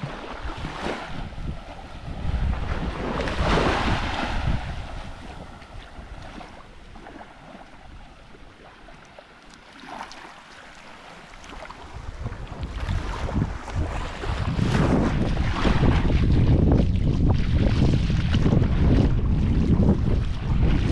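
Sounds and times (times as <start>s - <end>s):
wind buffeting the microphone: 0.0s - 9.0s, 11.4s - 20.9s
waves lapping on a beach: 0.0s - 20.9s.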